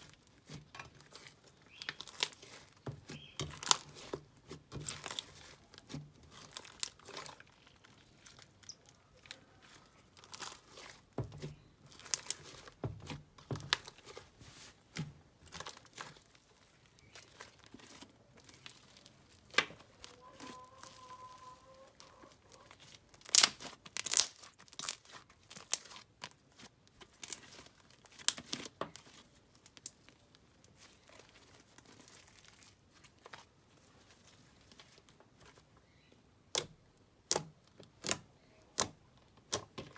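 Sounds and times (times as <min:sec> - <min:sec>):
slime crackling and popping: 0:00.0 - 0:33.5.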